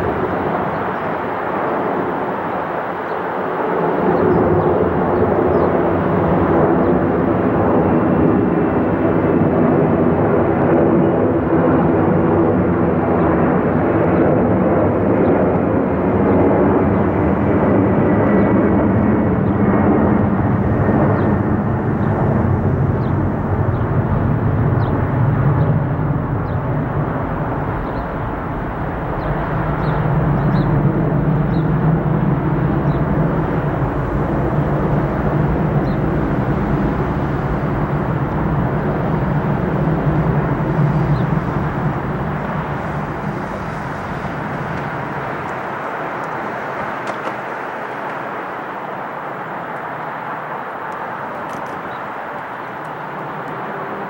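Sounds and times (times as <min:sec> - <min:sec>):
jet engine roar: 0:00.0 - 0:54.0.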